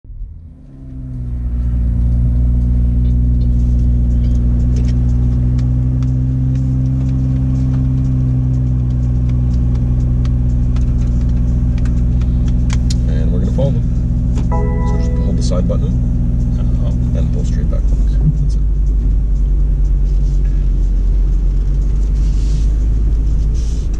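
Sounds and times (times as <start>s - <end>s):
car engine idling: 1.1s - 23.9s.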